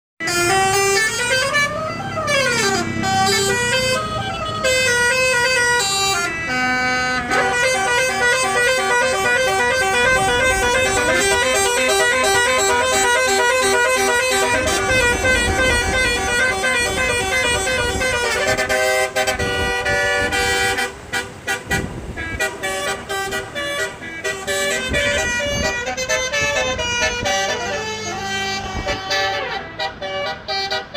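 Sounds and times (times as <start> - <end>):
bus horn playing a tune: 0.2 - 30.9.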